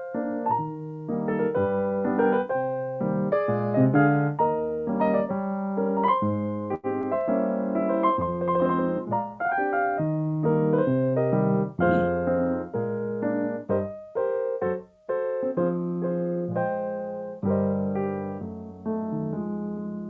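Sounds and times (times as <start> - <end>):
piano playing slow chords: 0.0 - 20.0.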